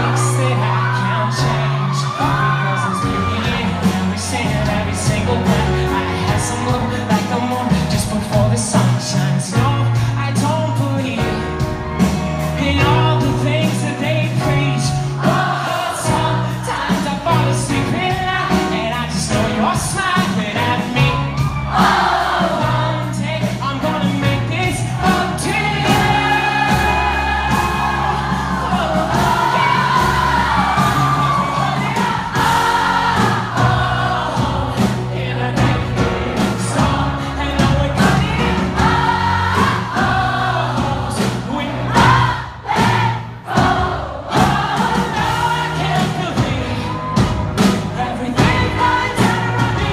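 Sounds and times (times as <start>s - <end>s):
crowd singing along: 0.0s - 10.4s, 11.1s - 49.9s
live band music: 0.0s - 49.9s.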